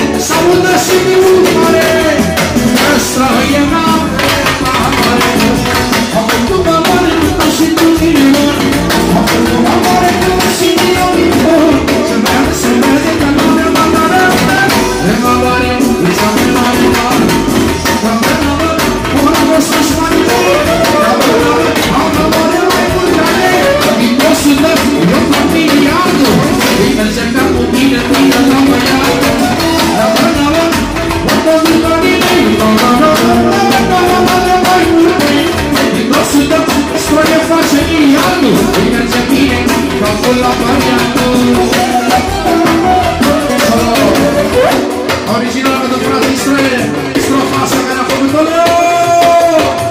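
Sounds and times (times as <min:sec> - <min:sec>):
busy drum beat: 0:00.0 - 0:49.9
live band music: 0:00.0 - 0:49.9
man singing into microphone: 0:00.0 - 0:49.9.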